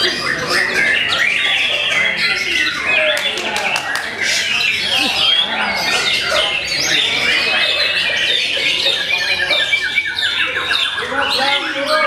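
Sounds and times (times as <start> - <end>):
rapid rattling bird trill: 0.0 - 12.0.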